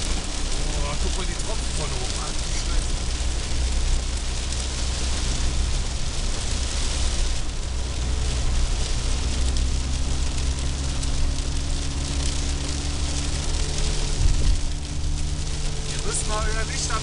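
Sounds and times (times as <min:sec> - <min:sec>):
car driving rumble: 0:00.0 - 0:17.0
heavy rain on car roof: 0:00.0 - 0:17.0.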